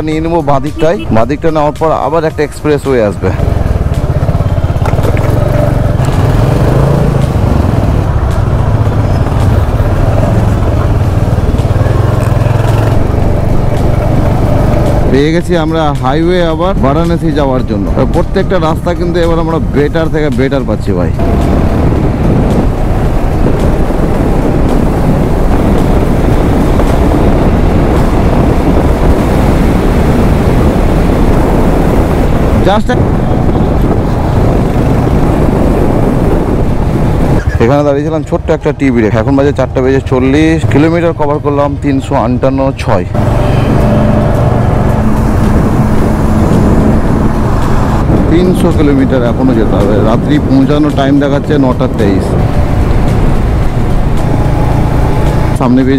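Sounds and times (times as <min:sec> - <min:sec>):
road and wind noise: 0:00.0 - 0:55.9
motorcycle engine running: 0:02.4 - 0:38.2, 0:39.3 - 0:55.9.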